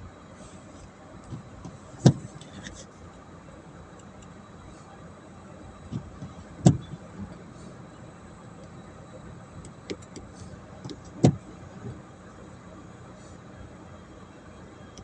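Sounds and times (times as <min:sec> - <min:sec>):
engine and road noise in cabin: 0:00.0 - 0:15.0.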